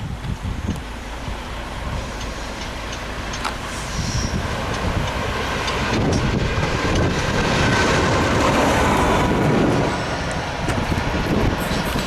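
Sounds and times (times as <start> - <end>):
rail vehicle engine: 0.0 - 12.0
wheels on rails: 0.0 - 12.0.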